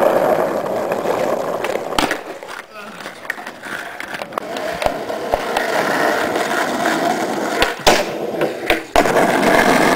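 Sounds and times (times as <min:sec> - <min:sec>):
skateboard clacking: 0:00.0 - 0:09.9
skateboard wheels rolling on asphalt: 0:00.0 - 0:09.9.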